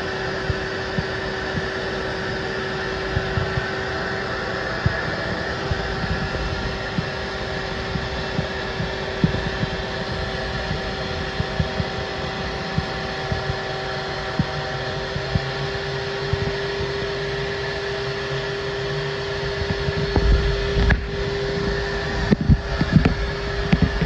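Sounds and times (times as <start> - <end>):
shop vacuum motor whine: 0.0 - 24.0.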